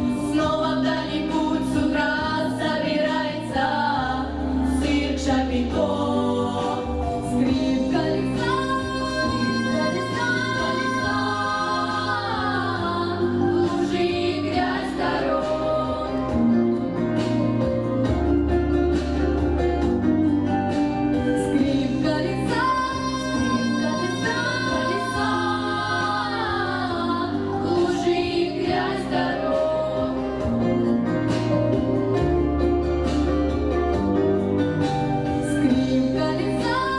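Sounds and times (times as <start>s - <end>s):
instrumental backing with bass: 0.0s - 36.9s
women singing in harmony: 0.0s - 36.9s.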